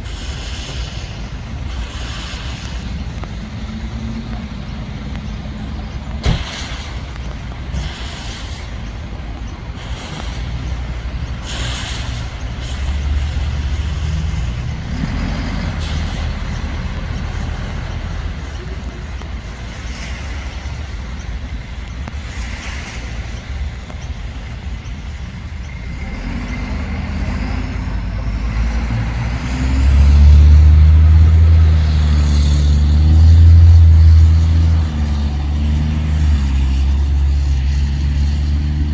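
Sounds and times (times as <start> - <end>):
deep engine rumble: 0.0 - 38.9
diesel truck engines running: 0.0 - 38.9.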